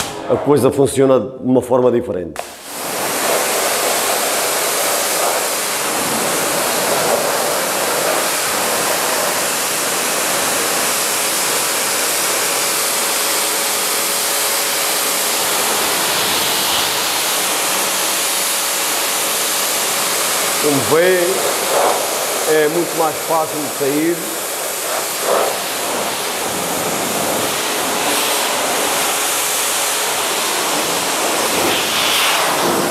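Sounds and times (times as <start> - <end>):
pressure washer spraying water: 2.4 - 32.9.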